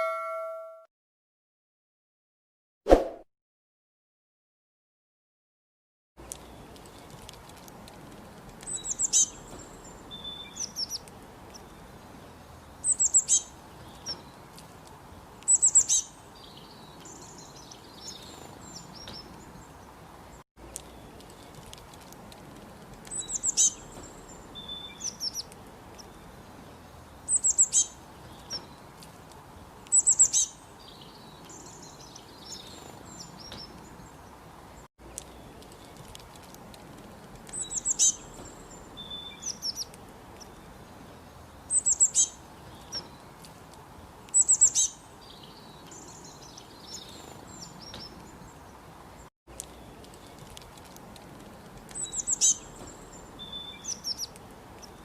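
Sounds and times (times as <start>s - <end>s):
faint steady background noise: 6.2s - 55.0s
songbirds chirping: 6.2s - 55.0s.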